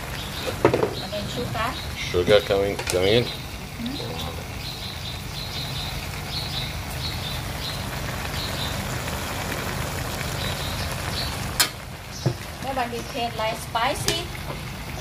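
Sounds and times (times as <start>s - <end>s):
stir-fry sizzling in a wok: 0.0s - 15.0s.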